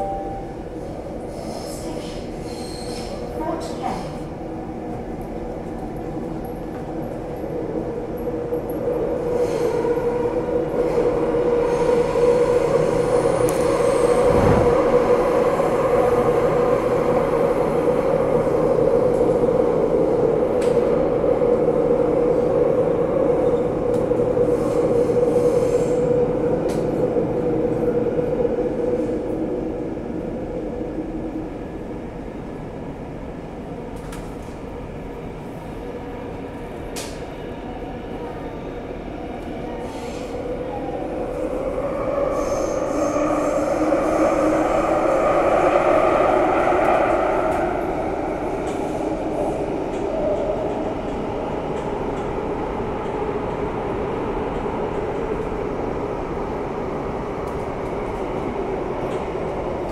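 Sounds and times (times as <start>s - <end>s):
metro train rumbling: 0.0s - 59.9s.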